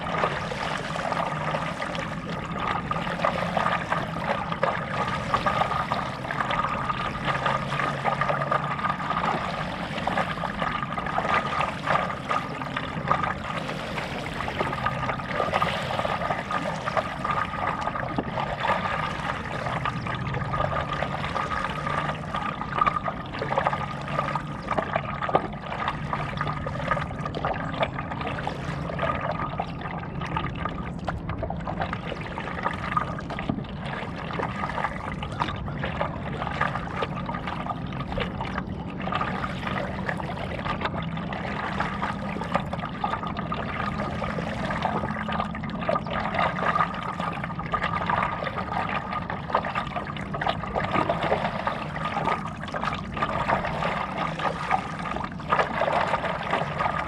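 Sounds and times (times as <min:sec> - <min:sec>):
paddle splashing: 0:00.0 - 0:57.0
water trickling and splashing: 0:00.0 - 0:57.0.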